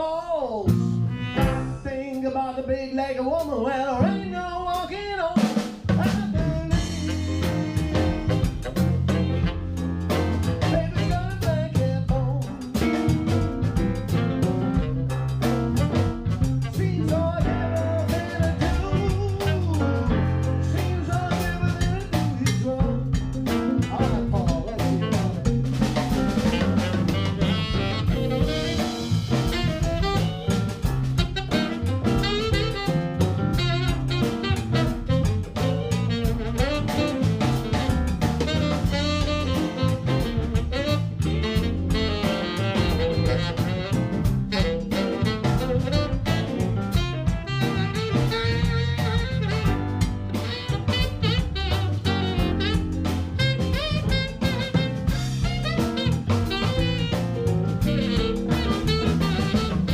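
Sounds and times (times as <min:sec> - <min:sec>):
band playing blues: 0:00.0 - 0:59.9
drum kit beat: 0:00.7 - 0:02.4, 0:03.4 - 0:59.9.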